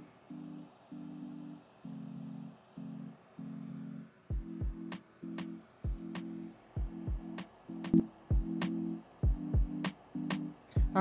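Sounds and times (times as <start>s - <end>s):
lo-fi beat music: 0.0s - 11.0s.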